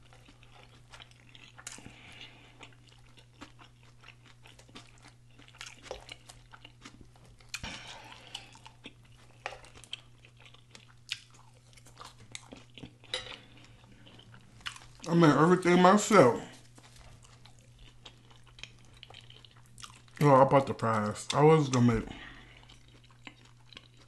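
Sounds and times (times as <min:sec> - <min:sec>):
chewing and lip smacking: 0:00.0 - 0:15.2, 0:16.6 - 0:24.0
low steady hum: 0:00.0 - 0:24.0.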